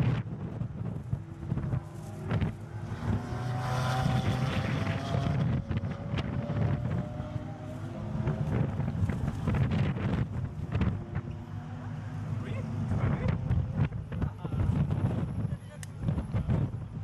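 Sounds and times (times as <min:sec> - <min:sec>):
wind on microphone: 0:00.0 - 0:11.6, 0:12.7 - 0:17.0
sports car engine running hard: 0:00.0 - 0:15.5.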